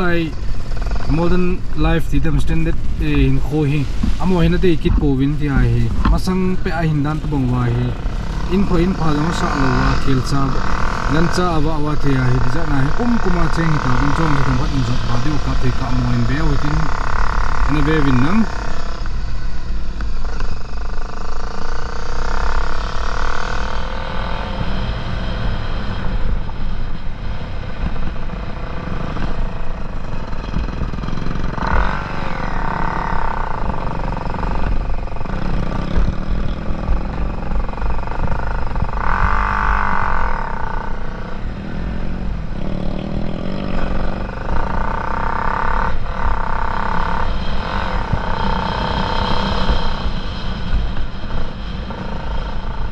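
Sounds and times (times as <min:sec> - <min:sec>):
dirt bike engine revving: 0:00.0 - 0:52.9
wind rumble on microphone: 0:00.0 - 0:52.9.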